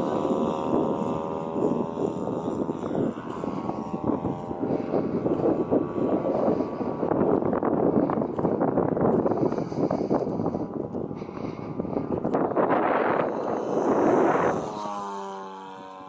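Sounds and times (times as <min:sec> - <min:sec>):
model plane engine: 0:00.0 - 0:16.0
rough gusty wind noise: 0:00.0 - 0:16.0.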